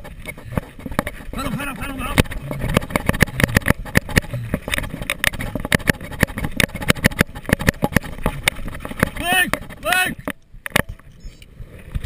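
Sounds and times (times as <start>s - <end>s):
bicycle rattling over rough ground: 0.0s - 12.0s
rumble of riding: 0.0s - 12.0s.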